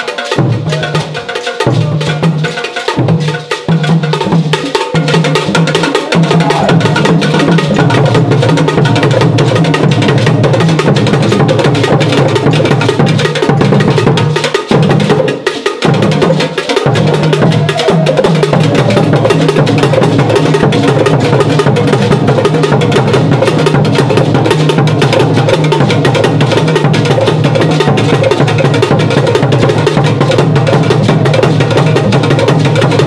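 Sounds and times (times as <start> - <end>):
percussion music: 0.0 - 33.0
wood-block-like clicking beat: 0.0 - 33.0.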